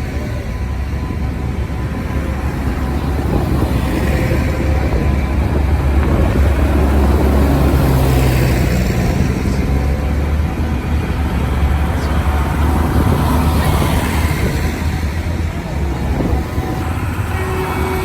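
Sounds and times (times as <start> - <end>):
tractor engines rumbling: 0.0 - 18.0.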